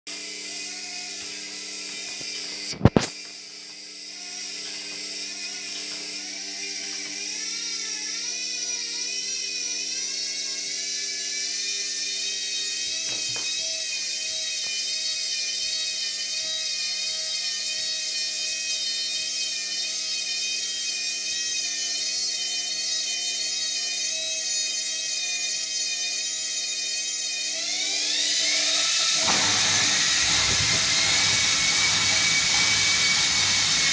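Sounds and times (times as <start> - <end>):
washing machine motor whining: 0.2 - 33.9.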